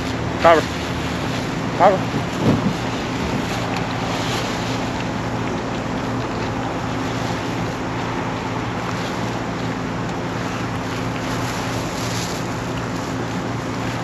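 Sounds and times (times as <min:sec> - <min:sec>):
truck engine droning: 0:00.0 - 0:14.0
wind and road noise: 0:00.0 - 0:14.0.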